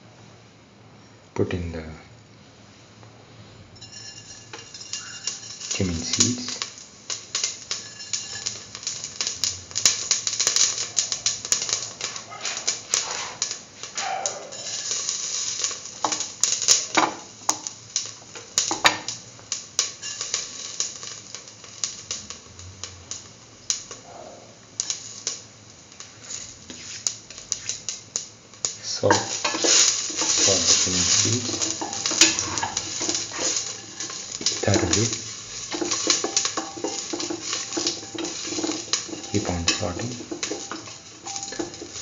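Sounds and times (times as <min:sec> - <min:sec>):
seeds crackling in hot oil: 0:02.3 - 0:42.0.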